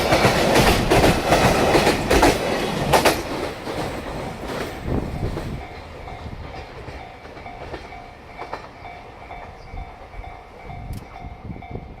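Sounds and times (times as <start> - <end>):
freight train rumble: 0.0 - 12.0
rail-joint clacks: 0.0 - 12.0.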